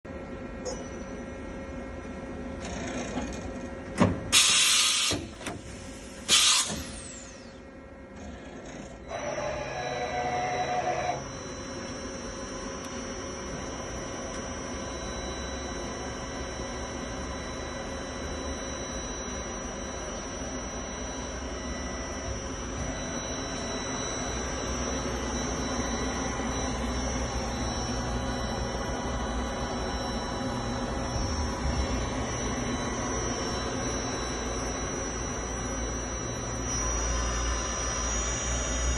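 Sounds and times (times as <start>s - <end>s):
machine hum with high whine: 0.1s - 38.9s
loud whirring tone: 4.3s - 38.9s.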